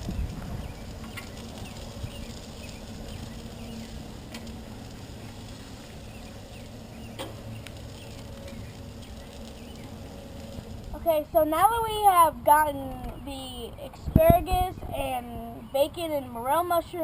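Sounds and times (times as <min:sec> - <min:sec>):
low rumble: 0:00.0 - 0:15.6.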